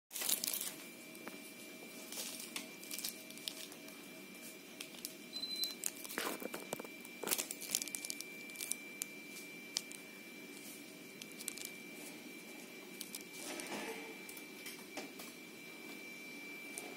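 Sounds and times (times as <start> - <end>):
air conditioner high whine: 0.1 - 16.9.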